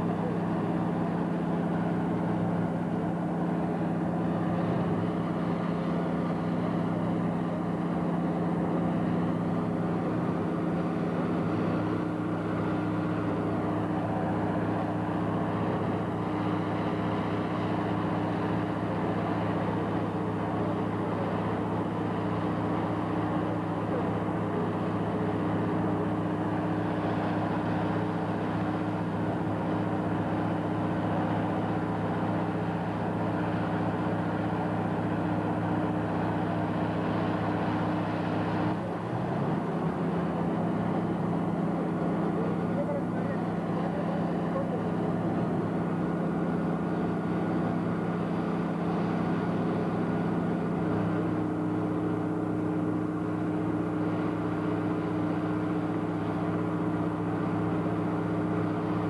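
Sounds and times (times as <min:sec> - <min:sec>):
crane engine droning: 0:00.0 - 0:59.0.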